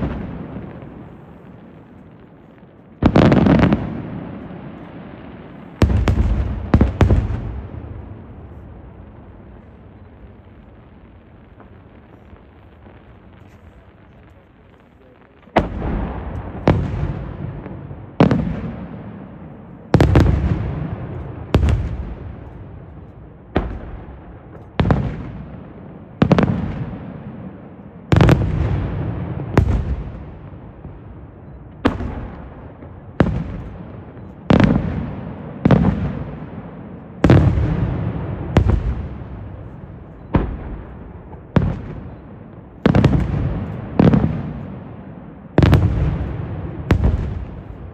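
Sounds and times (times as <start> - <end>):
firework bangs with echo: 0.0 - 47.9
low hiss: 0.0 - 47.9.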